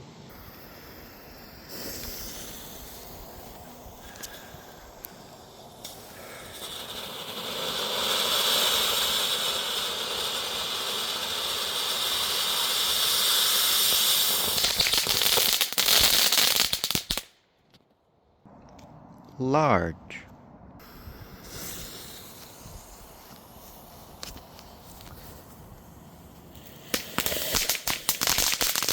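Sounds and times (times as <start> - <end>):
firework fountain hissing: 0.0 - 17.4, 20.8 - 28.9
crackle of strobe pops: 0.3 - 17.8, 20.8 - 28.9.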